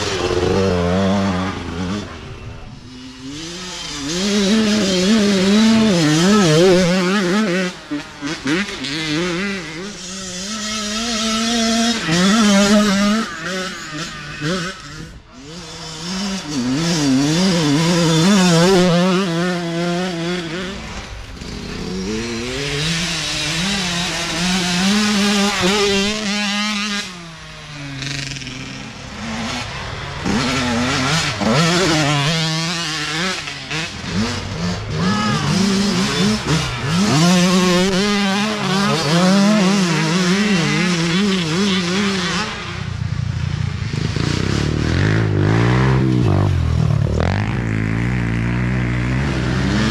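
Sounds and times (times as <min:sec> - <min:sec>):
dirt bike engines racing past: 0:00.0 - 0:49.9.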